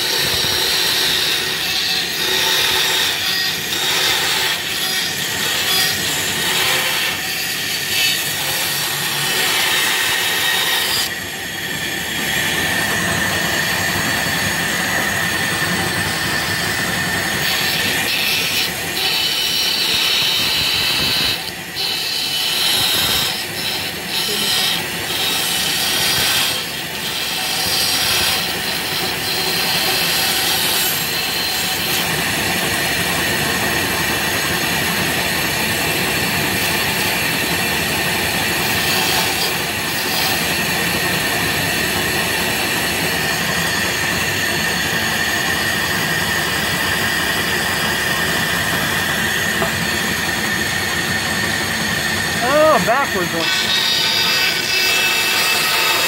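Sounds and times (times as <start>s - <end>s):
bandsaw cutting plywood: 0.0s - 56.0s.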